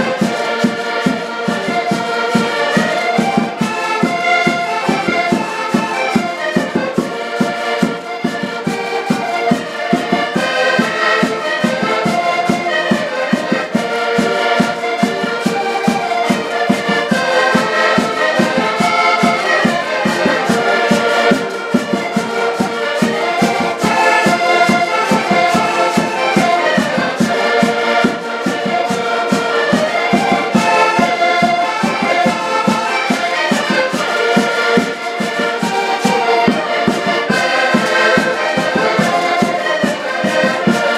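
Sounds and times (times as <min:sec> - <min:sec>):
accordion ensemble playing dance tune: 0:00.0 - 0:40.9.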